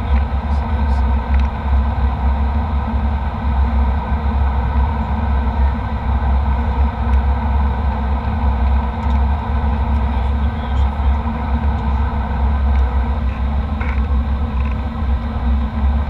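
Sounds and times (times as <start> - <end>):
airliner cabin engine drone: 0.0 - 16.0.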